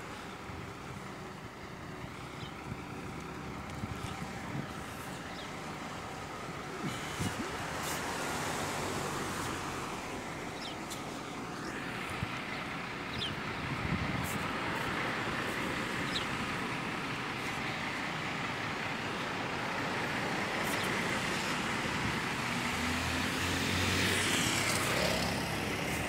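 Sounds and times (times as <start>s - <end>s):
road traffic noise: 0.0s - 26.0s
vehicle engine low hum: 0.0s - 26.0s.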